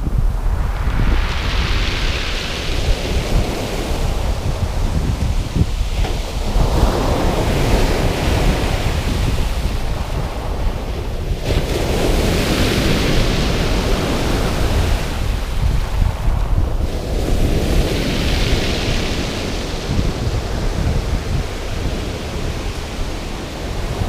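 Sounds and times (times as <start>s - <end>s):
sea waves washing ashore: 0.0s - 24.0s
wind buffeting microphone: 0.0s - 24.0s.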